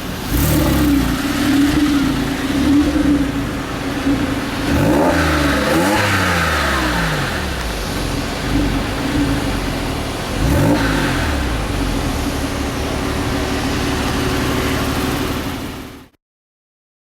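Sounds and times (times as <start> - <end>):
car engine idling and revving: 0.0 - 16.2.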